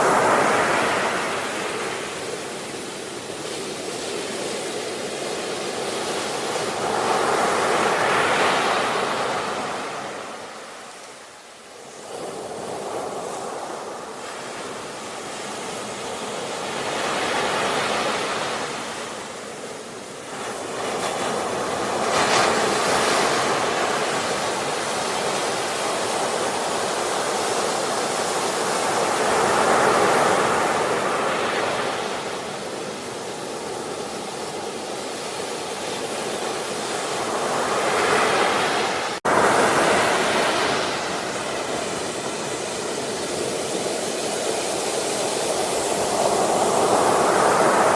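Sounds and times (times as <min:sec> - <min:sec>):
sea waves breaking: 0:00.0 - 0:11.0, 0:11.9 - 0:47.9.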